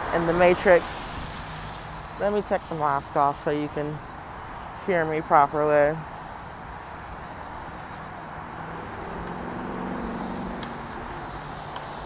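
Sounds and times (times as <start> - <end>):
passing cars: 0.0 - 12.0
vehicle engine hum: 0.0 - 12.0.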